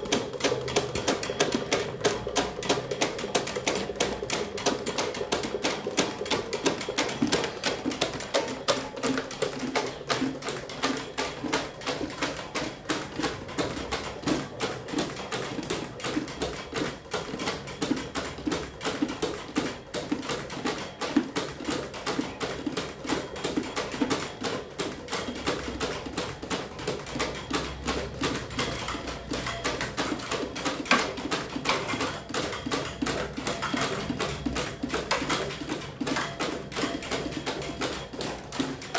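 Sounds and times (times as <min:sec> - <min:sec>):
electric fan clattering: 0:00.0 - 0:38.9.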